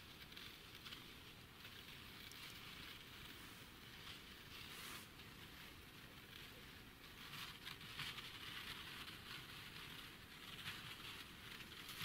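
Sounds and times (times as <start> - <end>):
faint steady hiss: 0.0 - 12.0
light rustles and ticks: 0.0 - 12.0.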